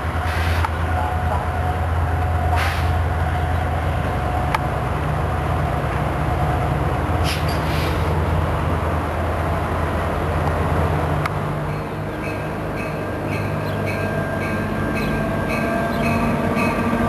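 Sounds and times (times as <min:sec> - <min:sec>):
locomotive engine drone: 0:00.0 - 0:17.0.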